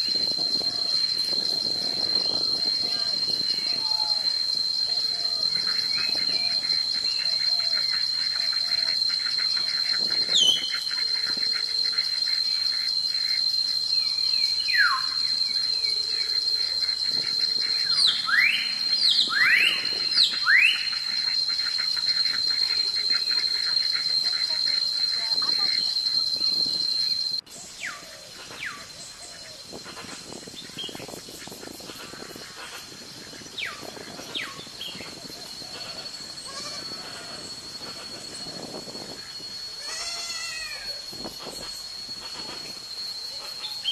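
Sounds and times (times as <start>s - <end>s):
bird whistled calls: 0.0s - 43.9s
high-pitched insect drone: 0.0s - 43.9s.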